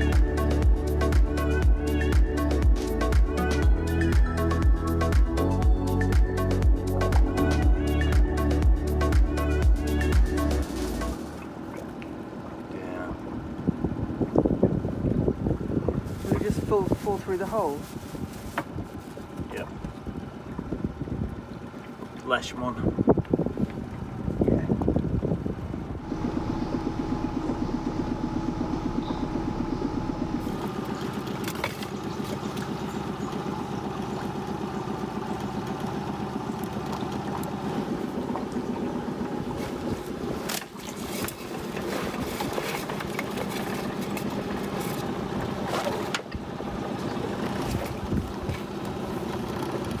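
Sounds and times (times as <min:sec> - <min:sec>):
outboard motor running: 0:00.0 - 0:50.0.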